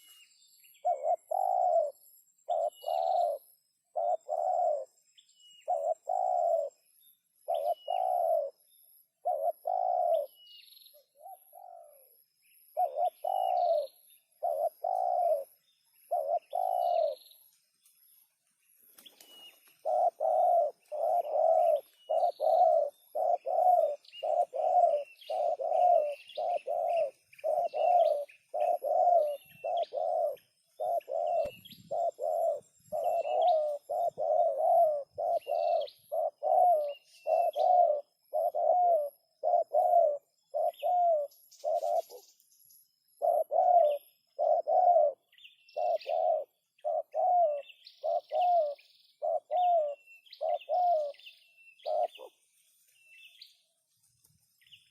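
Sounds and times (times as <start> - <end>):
dove calling in low notes: 0.0 - 17.5, 19.0 - 42.4, 43.0 - 52.4
small birds twittering: 0.0 - 54.9.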